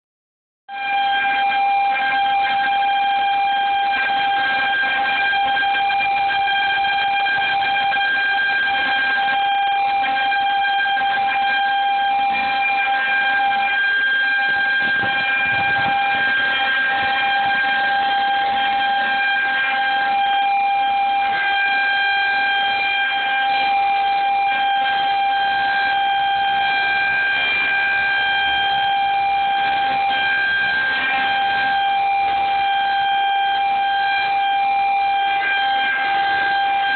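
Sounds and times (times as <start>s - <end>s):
warning siren steady tone: 0.7s - 36.9s.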